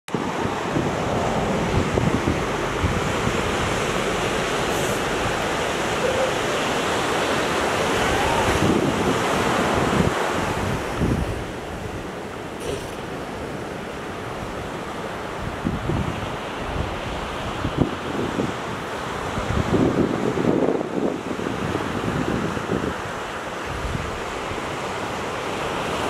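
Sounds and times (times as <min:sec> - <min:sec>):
ocean surf washing: 0:00.1 - 0:26.0
wind buffeting microphone: 0:00.1 - 0:26.0.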